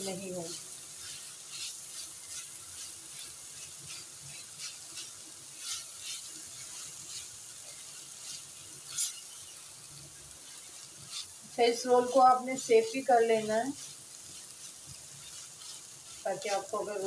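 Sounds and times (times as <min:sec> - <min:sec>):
food sizzling in a pan: 0:00.0 - 0:17.0
spatula scraping a pan: 0:00.0 - 0:17.0.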